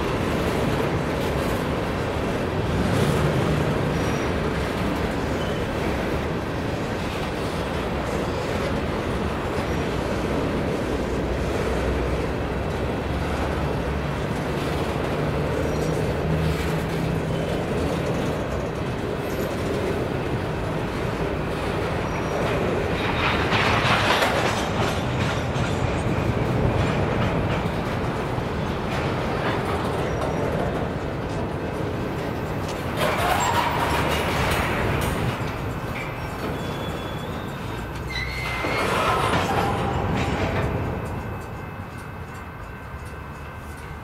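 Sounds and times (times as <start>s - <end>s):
freight train wheels rattling: 0.0s - 44.0s.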